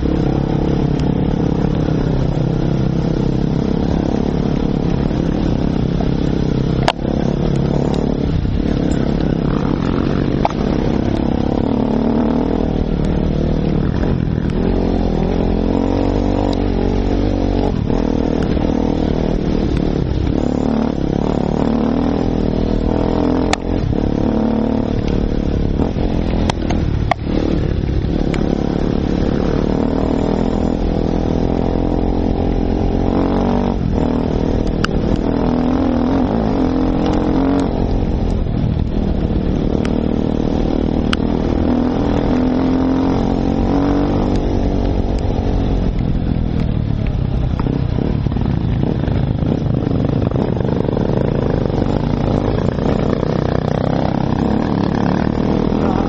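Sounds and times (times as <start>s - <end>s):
dirt bike engine revving: 0.0s - 46.7s, 47.4s - 56.0s.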